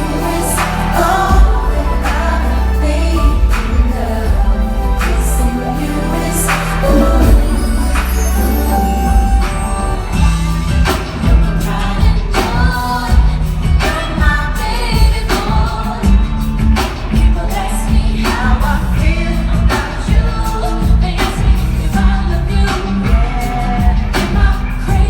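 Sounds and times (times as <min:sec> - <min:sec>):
live band with heavy bass: 0:00.0 - 0:25.0
person singing: 0:00.0 - 0:25.0.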